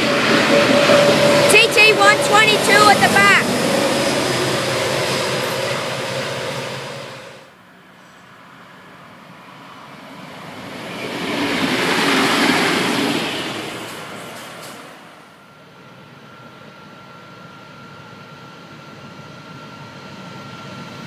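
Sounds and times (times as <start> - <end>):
diesel freight train passing: 0.0 - 21.0
diesel railcar passing: 0.0 - 21.0.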